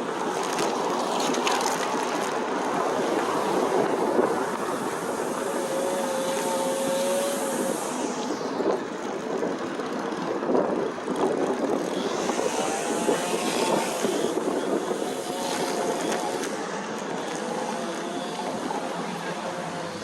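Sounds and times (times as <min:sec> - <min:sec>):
tyre and road noise: 0:00.0 - 0:20.0
wind on microphone: 0:00.0 - 0:20.0.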